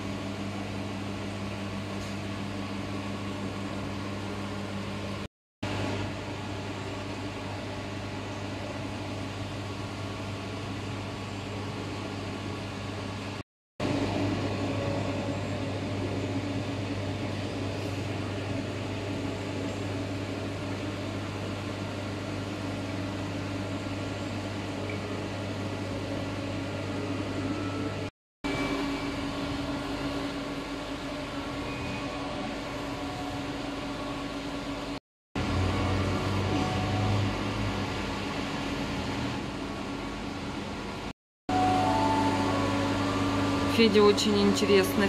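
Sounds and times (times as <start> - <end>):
low mechanical hum with hiss: 0.0 - 45.0.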